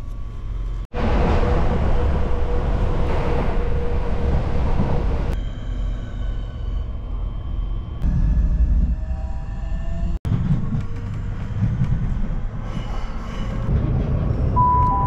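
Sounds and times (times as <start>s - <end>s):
train rumble and rattle: 0.0s - 15.0s.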